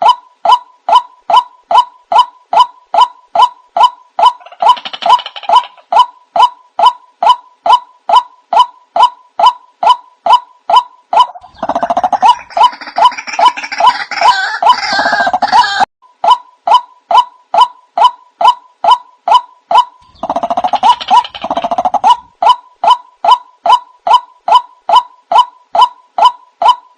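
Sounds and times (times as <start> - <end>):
waterhen calls: 0.0 - 26.8
overlapping bird calls: 0.0 - 26.9.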